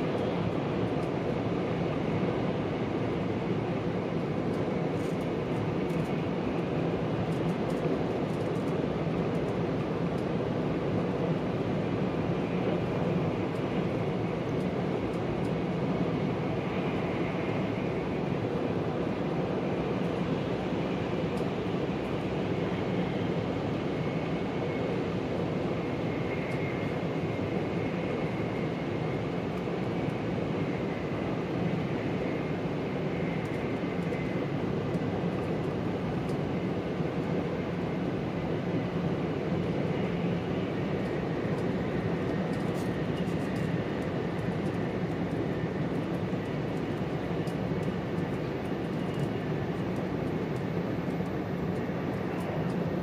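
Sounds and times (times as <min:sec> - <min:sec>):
train rumble and rush: 0:00.0 - 0:53.0.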